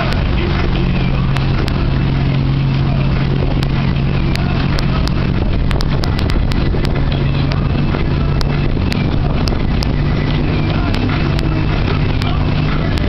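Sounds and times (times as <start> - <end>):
motorboat engine drone: 0.0 - 13.0
rushing water: 0.0 - 13.0
wind: 0.0 - 13.0.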